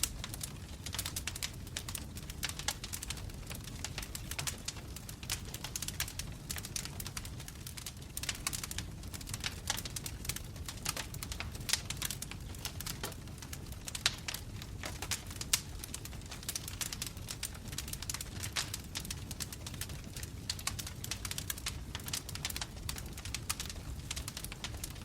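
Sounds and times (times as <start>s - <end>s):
burning logs crackling and popping: 0.0s - 25.0s
low rumble of flames: 0.0s - 25.0s.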